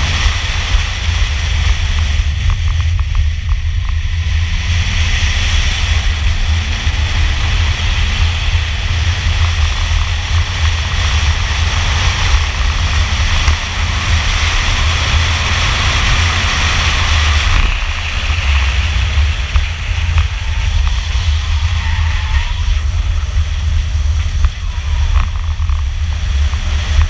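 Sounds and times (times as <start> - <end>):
car engine at full throttle: 0.0 - 27.0
wind and road noise: 0.0 - 27.0.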